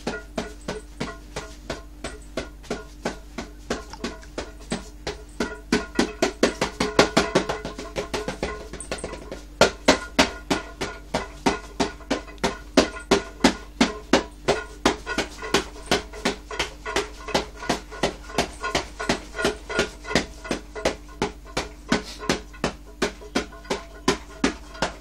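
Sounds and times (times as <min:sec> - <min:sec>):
hand drumming on a can: 0:00.0 - 0:25.0.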